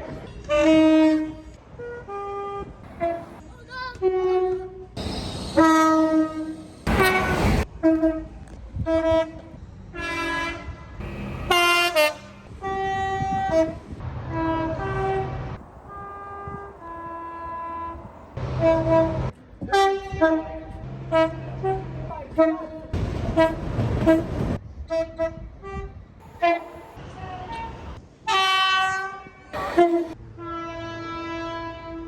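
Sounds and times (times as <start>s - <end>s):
passing train rush: 0.2s - 32.0s
train horn blasts: 0.5s - 3.4s, 4.0s - 32.0s.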